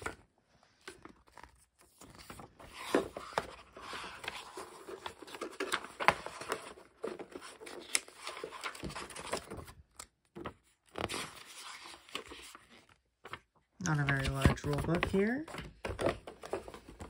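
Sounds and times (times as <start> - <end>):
book pages rustling: 0.0 - 17.0.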